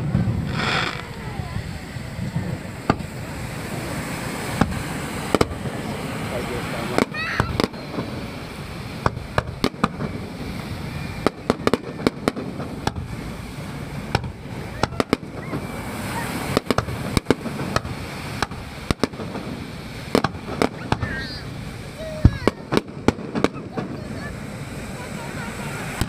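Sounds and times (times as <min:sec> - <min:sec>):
fireworks bangs and crackles: 0:00.0 - 0:26.0
sea waves on shore: 0:00.0 - 0:26.0.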